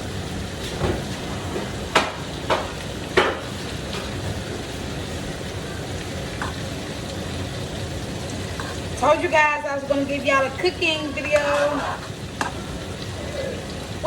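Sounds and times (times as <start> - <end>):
food sizzling in hot grease: 0.0 - 14.0.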